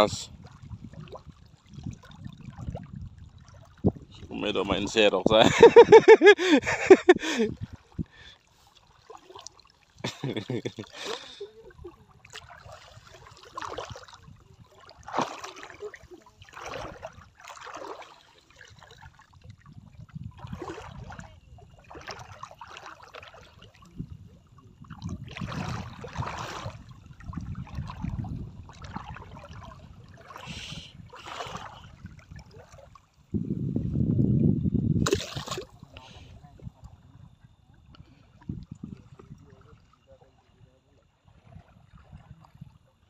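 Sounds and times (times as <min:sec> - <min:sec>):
water sloshing and splashing: 0:00.0 - 0:33.9, 0:35.0 - 0:43.0.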